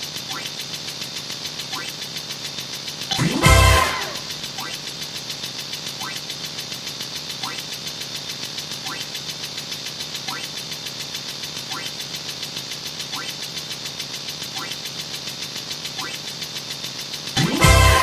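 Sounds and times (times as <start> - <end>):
rapid pulsing engine-like effect: 0.0 - 18.0.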